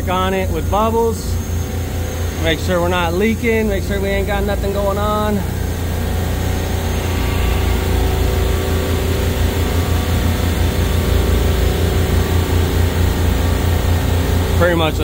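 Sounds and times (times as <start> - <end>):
refrigeration compressor humming: 0.0 - 15.0.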